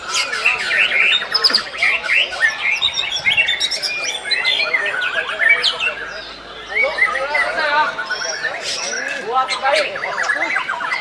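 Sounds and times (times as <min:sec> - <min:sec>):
birds singing chirps and trills: 0:00.0 - 0:11.0.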